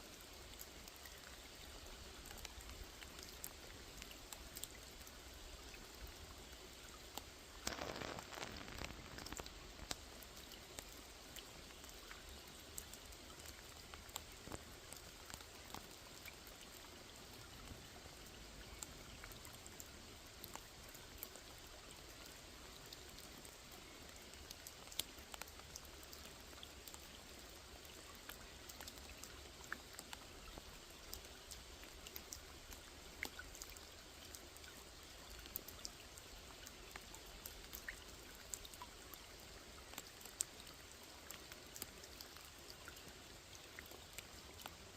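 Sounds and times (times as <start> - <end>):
rain falling on a lake: 0.0 - 44.9
single raindrops ticking: 0.2 - 44.9.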